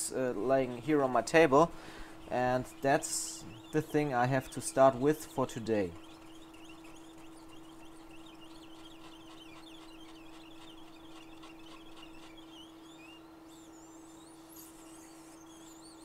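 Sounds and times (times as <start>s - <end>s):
birds chirping: 0.0s - 16.0s
steady hum: 0.0s - 16.0s.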